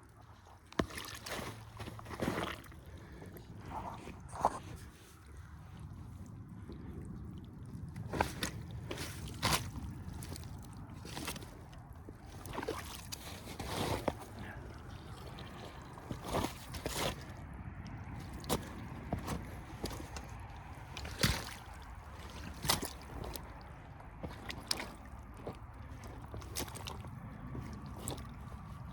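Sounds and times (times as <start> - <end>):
rubber boots squelching in mud: 0.0 - 28.9.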